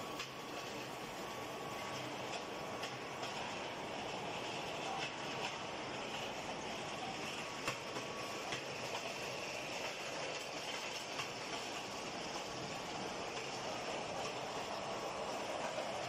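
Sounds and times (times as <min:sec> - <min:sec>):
rolling mill running: 0:00.0 - 0:16.0.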